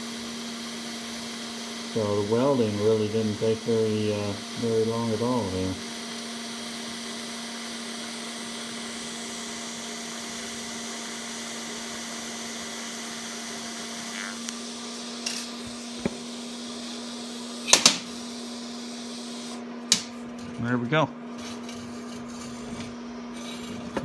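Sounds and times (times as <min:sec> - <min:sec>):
welding arc buzzing hiss: 0:00.0 - 0:23.6.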